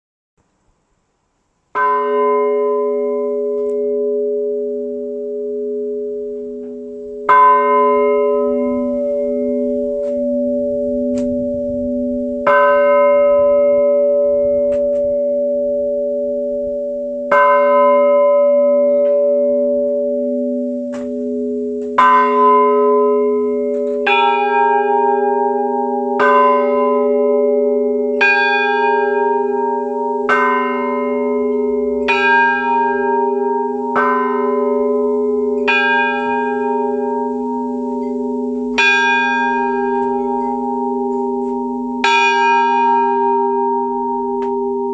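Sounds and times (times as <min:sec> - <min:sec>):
large church bell ringing: 0:01.7 - 0:44.9
higher pulsing bell tones: 0:01.8 - 0:44.9.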